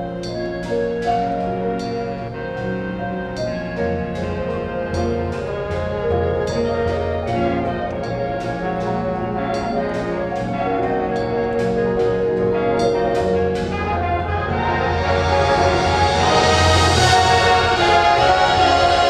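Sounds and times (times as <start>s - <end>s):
brass band chords: 0.0s - 19.0s.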